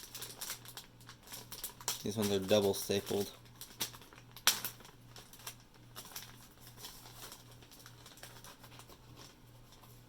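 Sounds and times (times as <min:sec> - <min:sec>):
packaging crinkling and clicking: 0:00.0 - 0:10.0.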